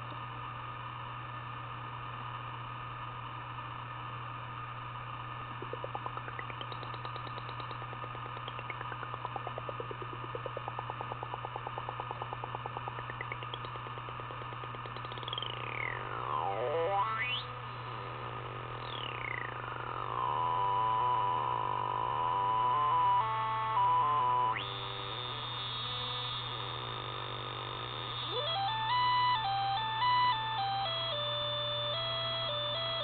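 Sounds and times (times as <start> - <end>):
electrical hum and hiss: 0.0 - 33.0
buzzy synth tone sweeping in pitch: 5.6 - 33.0.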